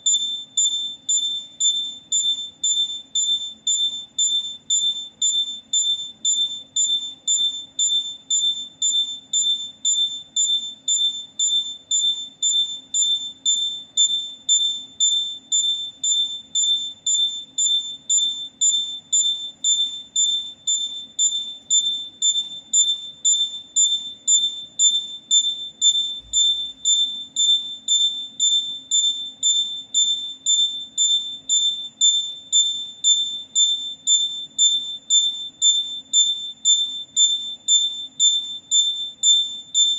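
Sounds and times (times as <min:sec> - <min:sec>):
buzzer beeping: 0:00.0 - 0:39.9.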